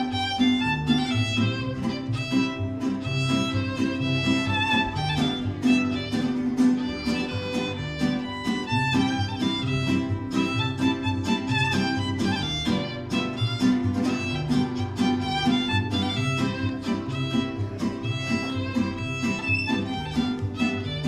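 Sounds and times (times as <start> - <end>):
fiddle melody: 0.0 - 21.0
strummed and plucked strings: 0.0 - 21.0.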